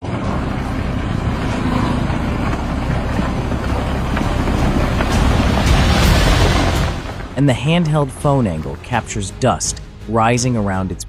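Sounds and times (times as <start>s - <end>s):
heavy machine engine rumbling: 0.0s - 10.6s.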